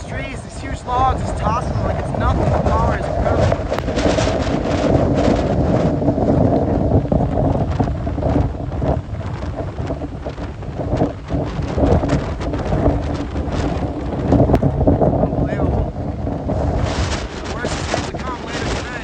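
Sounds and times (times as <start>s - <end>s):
storm surf breaking: 0.0s - 19.0s
wind buffeting microphone: 0.0s - 19.0s.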